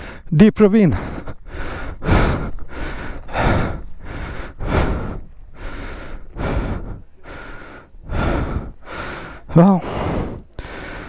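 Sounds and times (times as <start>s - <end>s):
man breathing hard: 0.0s - 0.3s, 0.9s - 11.0s.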